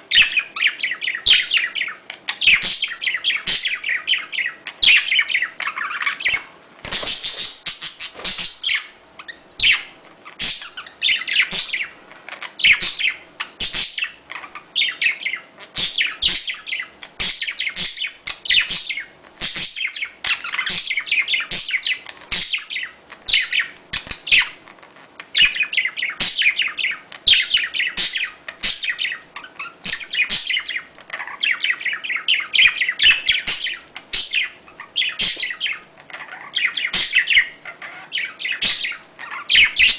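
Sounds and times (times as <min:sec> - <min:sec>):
budgerigars chattering and warbling: 0:00.1 - 0:24.6, 0:25.3 - 0:39.9.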